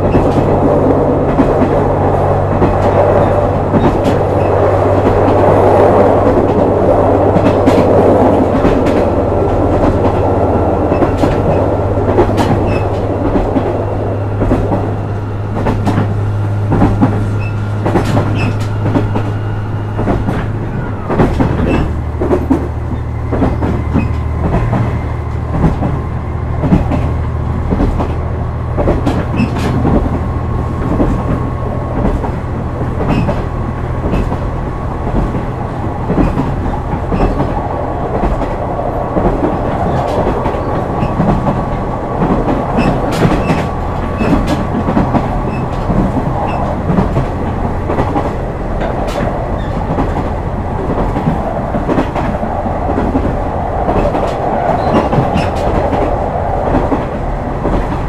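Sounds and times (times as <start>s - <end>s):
train rolling noise: 0.0s - 58.0s
wheels clacking over rail joints: 0.0s - 58.0s.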